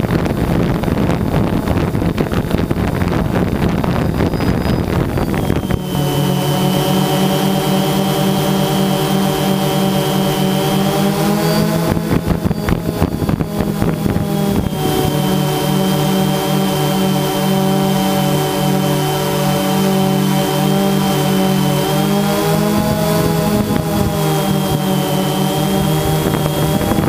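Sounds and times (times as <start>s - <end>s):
drone propellers buzzing: 0.0s - 27.0s
wind buffeting microphone: 0.0s - 27.0s.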